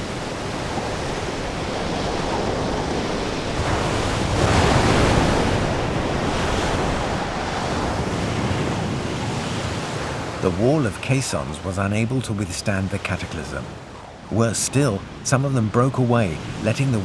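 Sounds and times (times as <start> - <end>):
waves breaking: 0.0 - 17.0
wind: 0.0 - 17.0.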